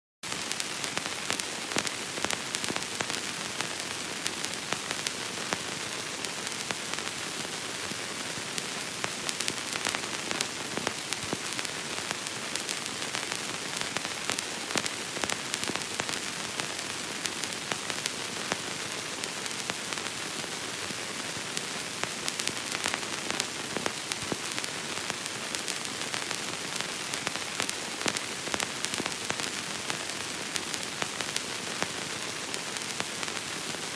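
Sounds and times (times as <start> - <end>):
film crackle hiss: 0.2 - 33.9
random pops and clicks: 0.2 - 33.9.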